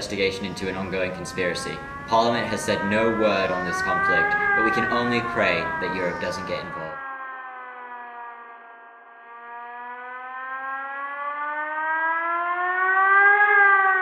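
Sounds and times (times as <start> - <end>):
air-raid siren wailing: 0.0 - 14.0.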